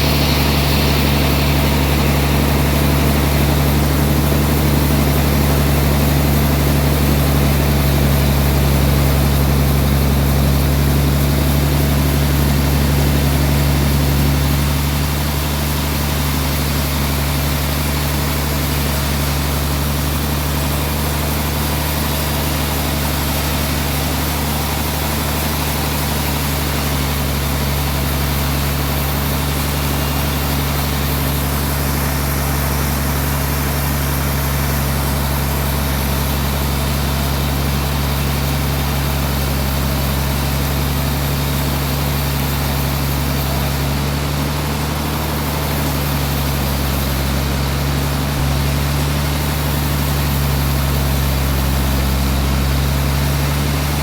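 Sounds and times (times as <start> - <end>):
sawmill machinery drone: 0.0 - 54.0.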